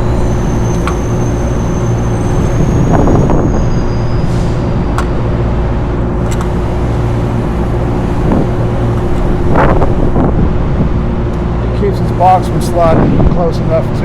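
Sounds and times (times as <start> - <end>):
wind on microphone: 0.0 - 5.1, 5.8 - 11.7, 12.4 - 13.8
low mechanical hum: 0.0 - 14.0.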